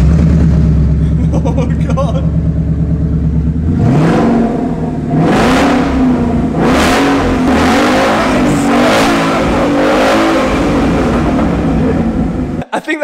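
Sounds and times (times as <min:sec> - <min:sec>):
loud car engine revving: 0:00.0 - 0:12.6.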